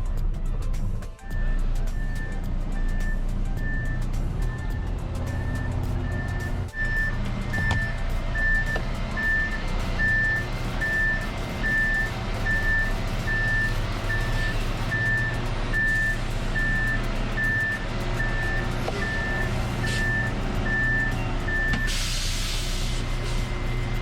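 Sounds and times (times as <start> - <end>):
diesel engine running: 0.0 - 24.0
truck warning beeper: 1.3 - 24.0.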